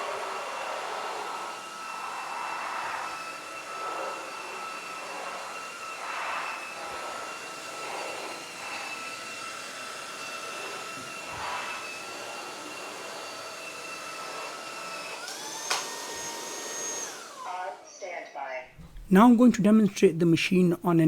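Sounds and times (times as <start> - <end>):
floor cleaner motor whine: 0.0 - 18.2.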